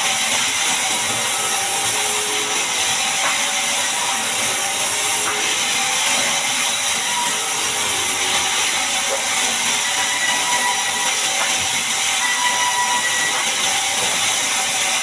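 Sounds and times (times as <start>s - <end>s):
band saw cutting log: 0.0s - 15.0s.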